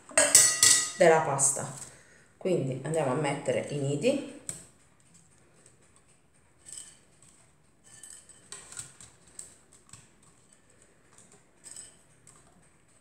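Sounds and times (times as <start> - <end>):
dried pasta crackling: 1.0 - 13.0.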